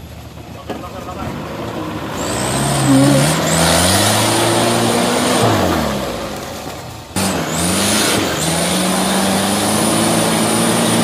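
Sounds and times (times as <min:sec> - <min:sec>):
engine revving: 0:01.2 - 0:11.0.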